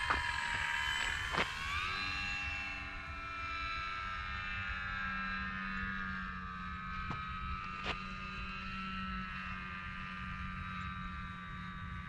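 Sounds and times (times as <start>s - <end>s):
low wind rumble: 0.0s - 12.0s
model plane motor whine: 0.0s - 12.0s.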